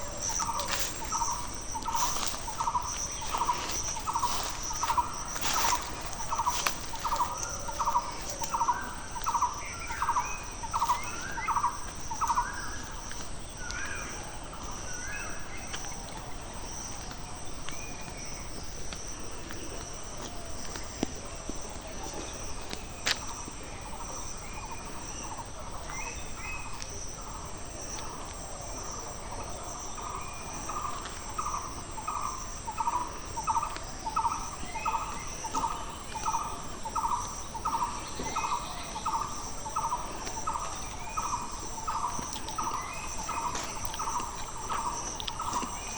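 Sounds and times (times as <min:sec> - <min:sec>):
birds chirping: 0:00.0 - 0:19.0, 0:19.8 - 0:45.9
high insect drone: 0:00.0 - 0:45.9.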